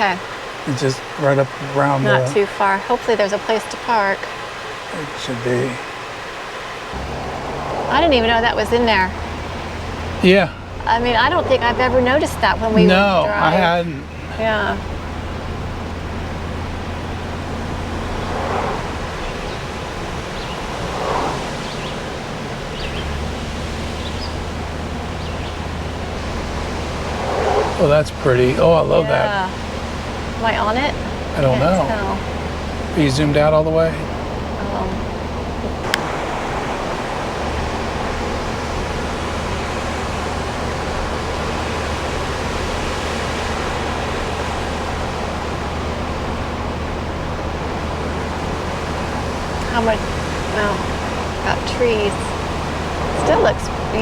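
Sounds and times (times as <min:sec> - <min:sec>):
low engine drone: 0:00.0 - 0:54.0
road and wind hiss: 0:00.0 - 0:54.0.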